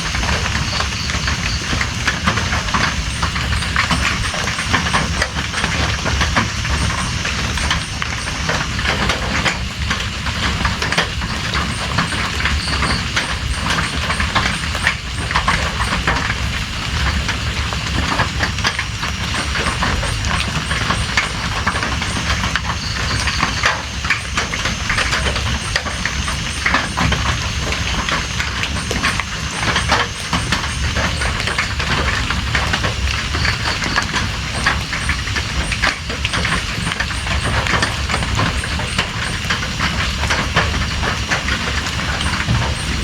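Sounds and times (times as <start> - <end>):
rain drops pattering: 0.0 - 43.0.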